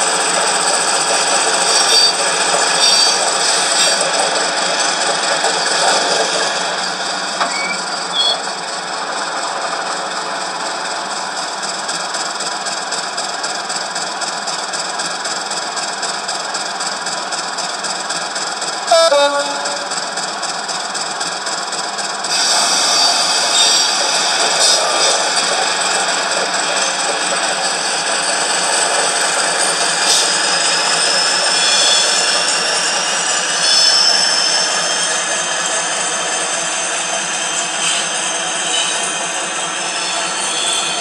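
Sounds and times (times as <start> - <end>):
model train diesel engine sound: 0.0 - 41.0.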